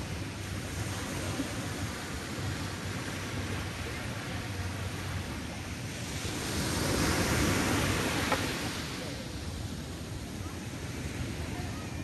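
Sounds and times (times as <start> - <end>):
ocean waves washing on beach: 0.0 - 12.0.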